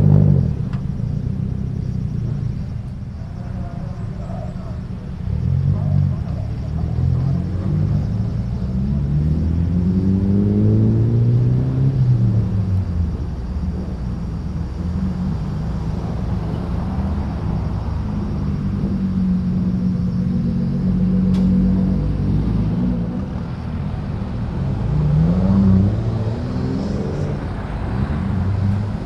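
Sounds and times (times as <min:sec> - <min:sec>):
car engine accelerating: 0:00.0 - 0:29.0
rumble of traffic: 0:00.0 - 0:29.0.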